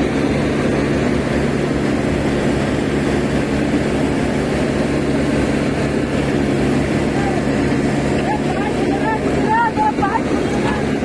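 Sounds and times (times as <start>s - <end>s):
diesel engine low throb: 0.0s - 11.0s.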